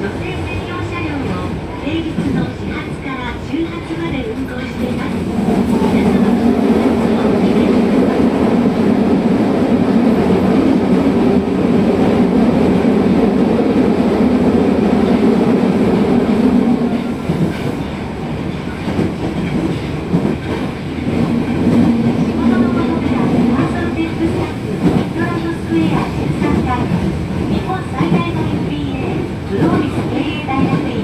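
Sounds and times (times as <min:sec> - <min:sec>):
subway train rumbling in tunnel: 0:00.0 - 0:31.0.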